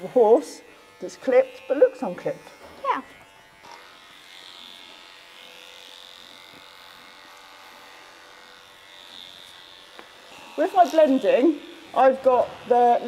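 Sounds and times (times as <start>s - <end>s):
horse clippers whining: 0.0s - 13.0s.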